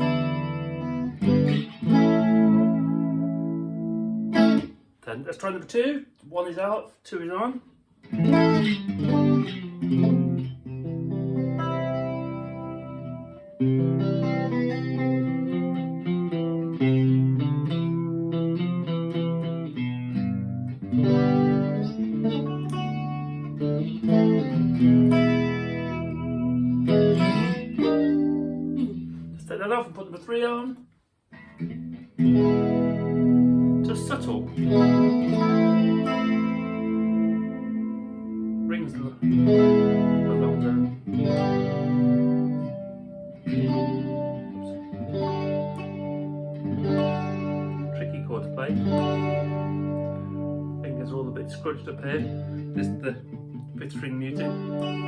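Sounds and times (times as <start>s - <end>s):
electric guitar strummed chords: 0.0s - 4.8s, 8.0s - 29.5s, 31.4s - 55.0s.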